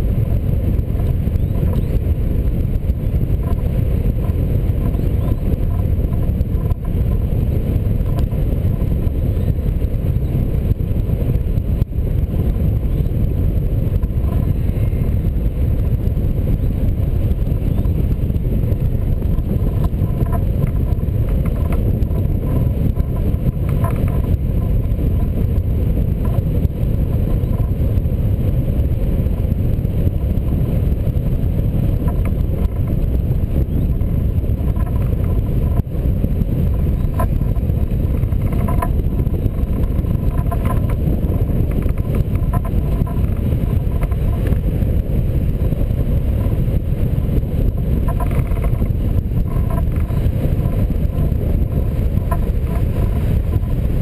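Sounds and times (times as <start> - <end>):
wind rumbling over microphone: 0.0 - 54.0.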